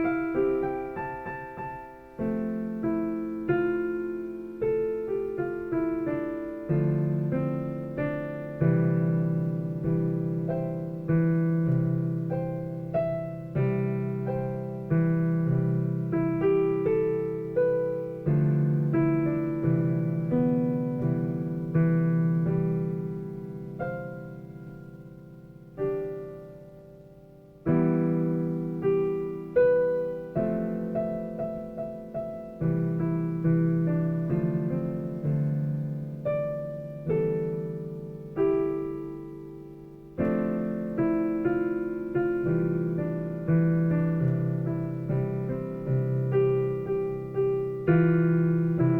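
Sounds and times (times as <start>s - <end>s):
piano chords: 0.0s - 48.9s.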